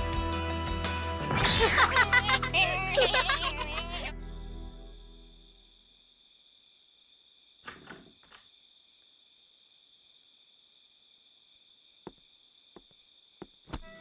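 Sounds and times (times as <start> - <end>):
faint crickets chirping: 1.8 - 14.0.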